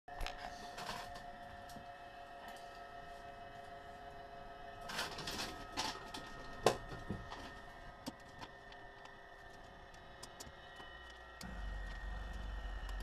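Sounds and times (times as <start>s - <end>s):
faint steady hum: 0.1s - 13.0s.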